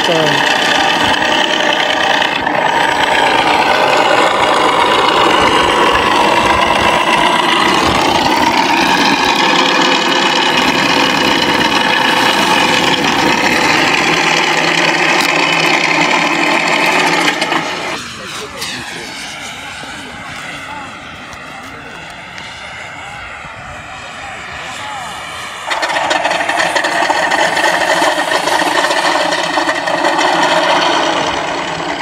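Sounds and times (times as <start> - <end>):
simulated piston aircraft engine: 0.0 - 32.0.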